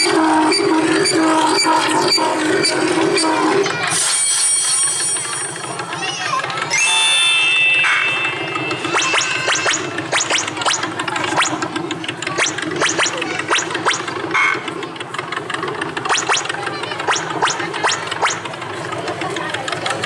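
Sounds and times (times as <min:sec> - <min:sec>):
ambient hum: 0:00.0 - 0:03.8, 0:06.6 - 0:19.2.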